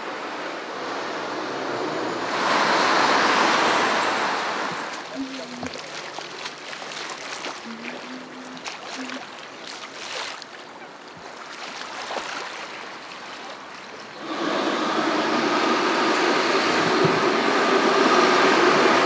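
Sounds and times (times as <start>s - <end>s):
lake water lapping: 2.4s - 19.0s.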